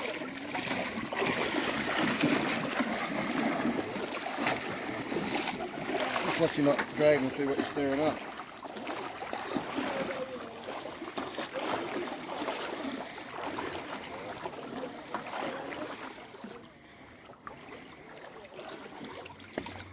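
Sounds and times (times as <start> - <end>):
net dragged through water: 0.0 - 19.9
wading through water: 0.0 - 19.9.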